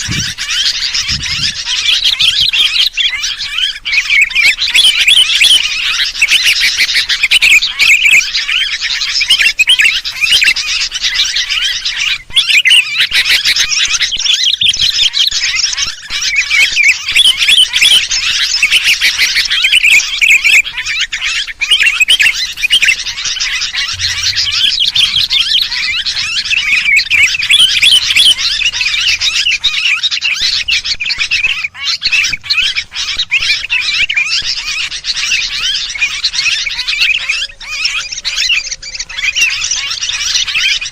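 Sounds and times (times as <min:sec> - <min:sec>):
chorus of bulbuls chirping: 0:00.0 - 0:40.9.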